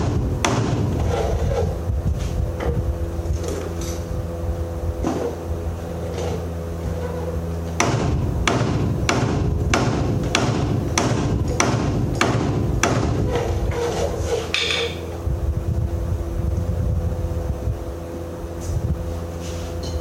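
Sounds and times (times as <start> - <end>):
steady engine hum: 0.0 - 20.0.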